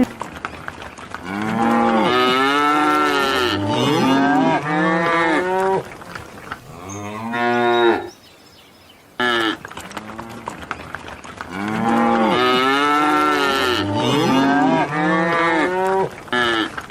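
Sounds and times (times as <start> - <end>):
cows mooing: 1.2 - 10.6, 11.5 - 16.7.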